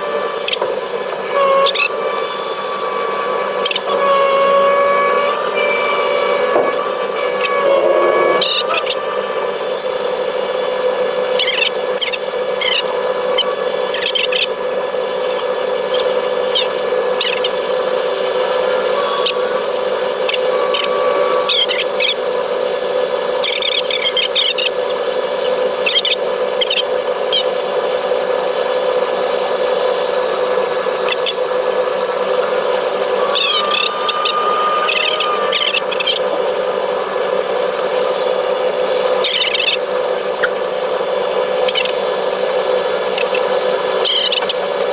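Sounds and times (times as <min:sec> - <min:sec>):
high-pitched squeaks and clicks: 0:00.0 - 0:10.2, 0:11.2 - 0:22.5, 0:23.4 - 0:27.6, 0:31.0 - 0:40.6, 0:41.5 - 0:42.1, 0:43.0 - 0:44.9
heavy machinery humming: 0:00.0 - 0:44.9.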